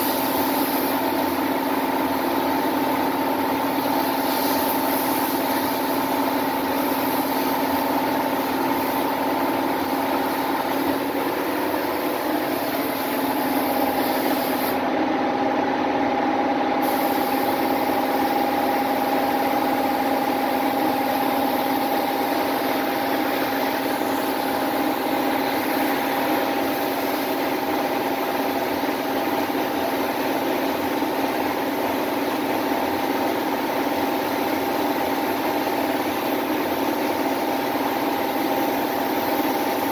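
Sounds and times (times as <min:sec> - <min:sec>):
paint spray gun hissing: 0:00.0 - 0:14.9, 0:16.8 - 0:39.9.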